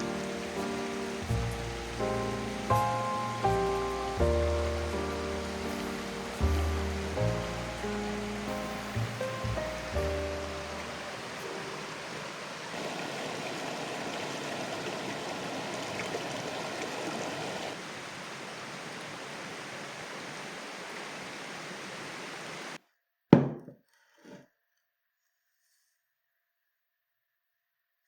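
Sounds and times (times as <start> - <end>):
mountain stream rushing: 0.0 - 22.8.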